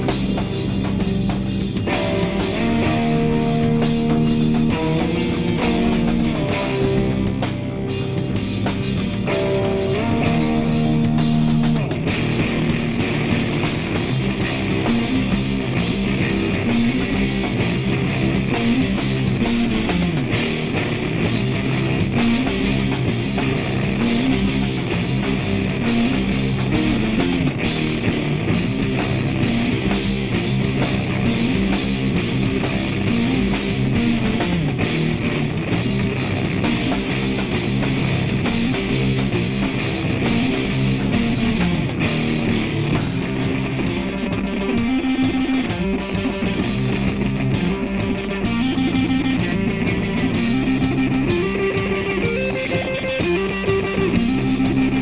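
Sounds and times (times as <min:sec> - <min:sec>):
distorted electric guitar: 0:00.0 - 0:55.0
drum kit: 0:00.0 - 0:55.0.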